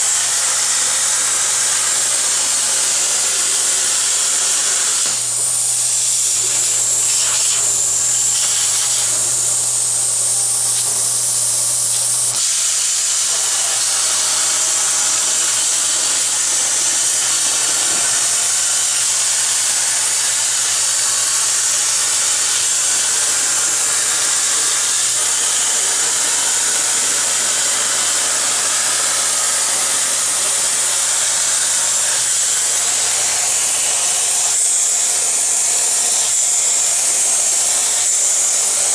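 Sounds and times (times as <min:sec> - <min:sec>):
plasma cutter arc hissing: 0:00.0 - 0:38.9.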